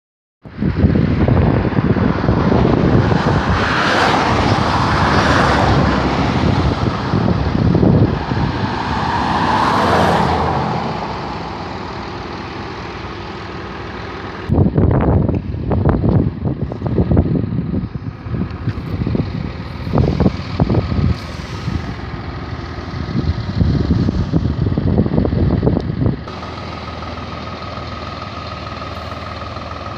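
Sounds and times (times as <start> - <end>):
road traffic: 0.4 - 29.9
vehicles passing: 0.4 - 29.9
wind: 0.4 - 29.9.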